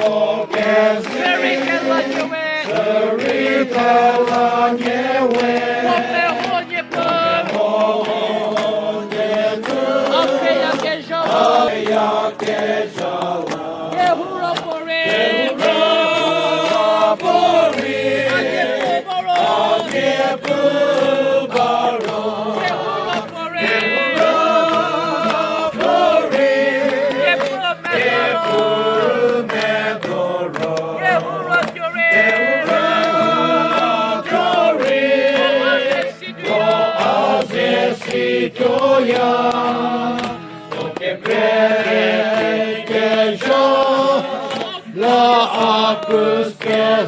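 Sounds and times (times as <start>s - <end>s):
group of voices singing: 0.0s - 47.0s.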